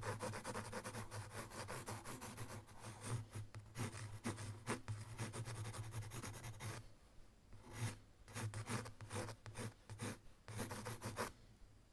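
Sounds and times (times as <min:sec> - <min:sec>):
scratchy writing strokes: 0:00.0 - 0:06.8, 0:07.6 - 0:11.3.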